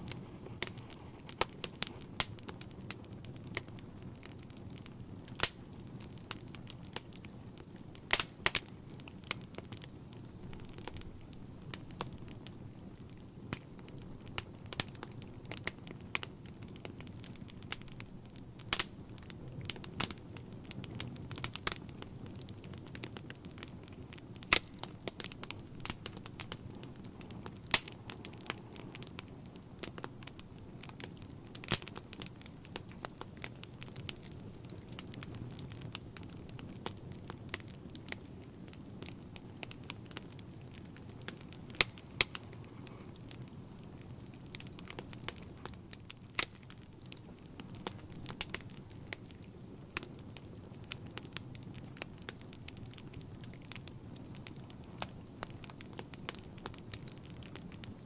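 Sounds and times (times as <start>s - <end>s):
low fire rumble: 0.0s - 58.0s
wood fire crackling and popping: 0.0s - 58.0s.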